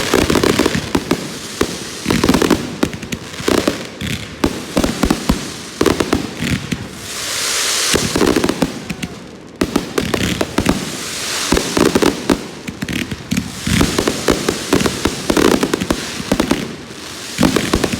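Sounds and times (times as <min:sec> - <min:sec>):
fireworks crackling pops: 0:00.0 - 0:17.9
fireworks hiss: 0:00.0 - 0:17.9.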